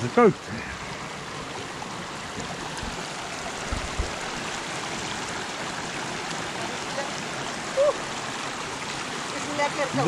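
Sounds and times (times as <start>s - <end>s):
stream rushing over boulders: 0.0s - 10.0s.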